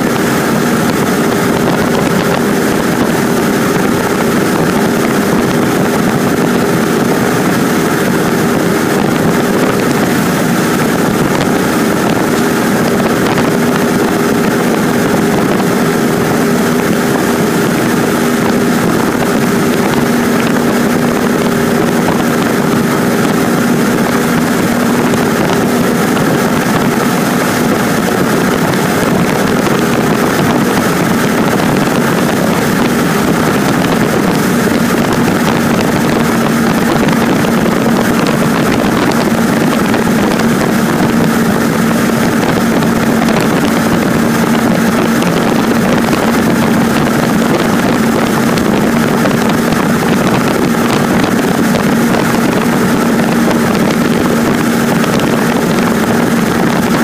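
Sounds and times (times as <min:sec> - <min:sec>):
airplane engine and propeller drone: 0:00.0 - 0:57.0.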